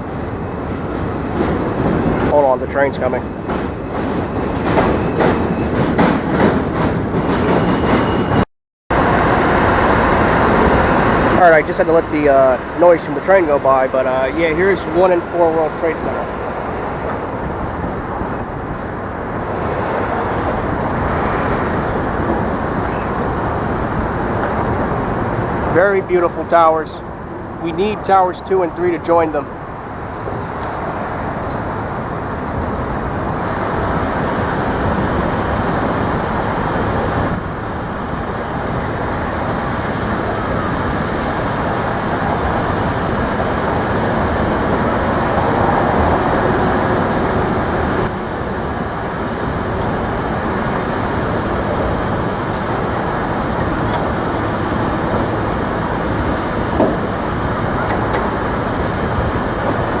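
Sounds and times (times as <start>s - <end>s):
road traffic rumble and hiss: 0.0s - 7.2s, 8.9s - 60.0s.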